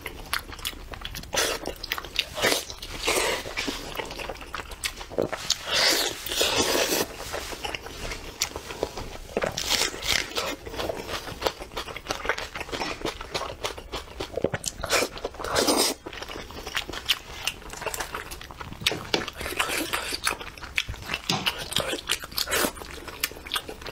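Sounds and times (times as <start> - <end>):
wet chewing and crunching: 0.0 - 23.9.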